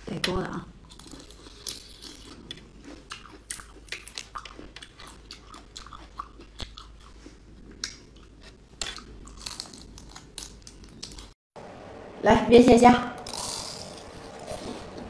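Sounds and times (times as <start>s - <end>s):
wet crunchy chewing: 0.8s - 11.4s, 13.2s - 15.0s.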